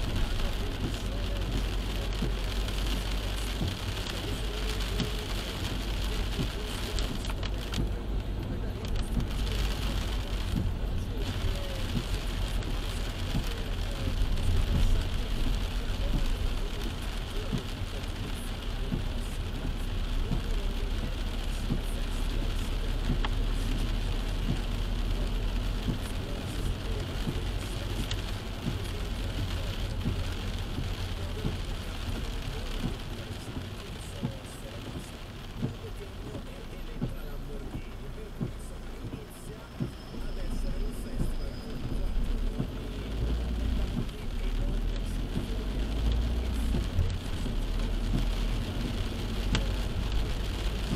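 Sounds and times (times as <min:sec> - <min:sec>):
low car rumble: 0:00.0 - 0:50.9
rain on a car: 0:00.0 - 0:50.9
tyres hissing on wet road: 0:00.0 - 0:50.9.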